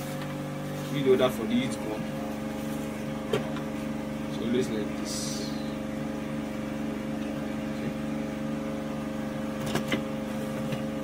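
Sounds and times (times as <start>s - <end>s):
generator engine humming: 0.0s - 11.0s.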